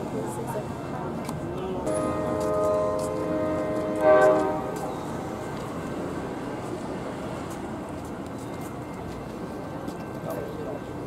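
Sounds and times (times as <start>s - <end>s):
train rumbling past: 1.8s - 11.0s.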